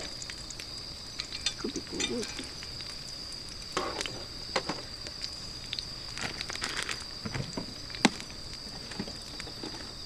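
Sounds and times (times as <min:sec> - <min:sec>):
high insect drone: 0:00.0 - 0:10.0
sausages sizzling: 0:00.0 - 0:10.0
wood fire crackling: 0:00.0 - 0:10.0.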